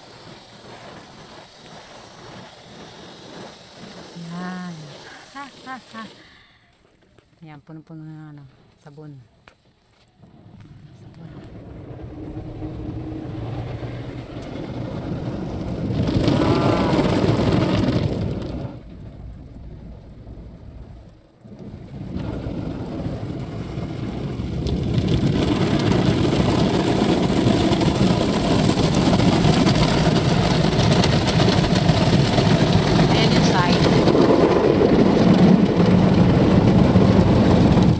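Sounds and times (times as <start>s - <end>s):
water on windshield: 0.0s - 6.7s, 10.1s - 37.9s
car wash machinery: 0.0s - 6.8s, 9.9s - 37.9s.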